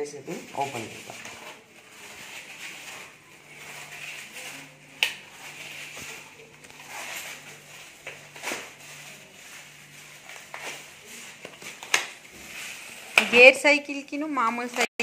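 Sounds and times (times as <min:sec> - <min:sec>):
packing wrap crinkling and tearing: 0:00.4 - 0:14.9.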